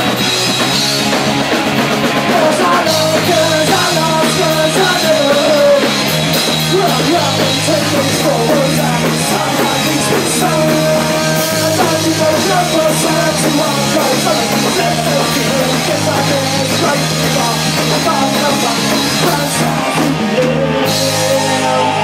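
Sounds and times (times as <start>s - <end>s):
punk rock band playing live: 0.0s - 22.0s.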